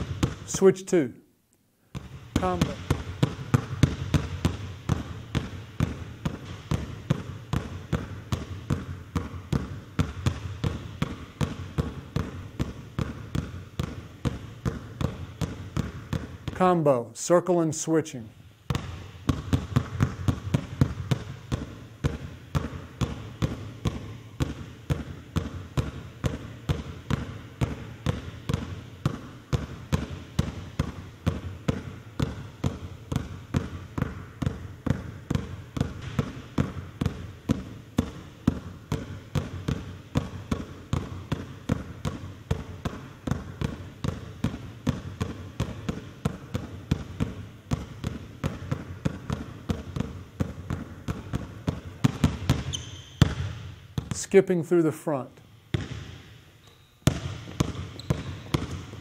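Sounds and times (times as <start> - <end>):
basketballs bouncing on wooden floor: 0.0 - 0.7, 1.8 - 17.0, 18.5 - 54.6, 55.6 - 59.0.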